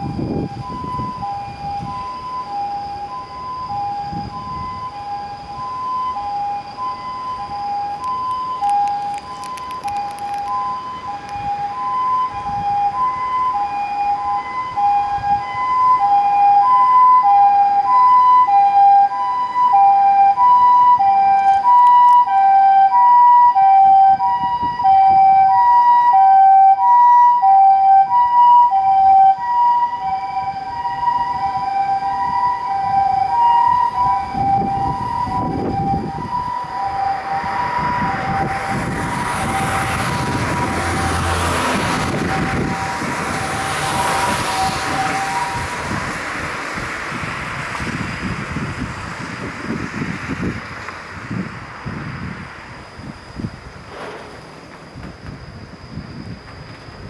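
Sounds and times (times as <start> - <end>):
rushing vehicle noise: 0.0 - 26.2, 30.0 - 57.0
two-tone ambulance siren: 0.0 - 57.0.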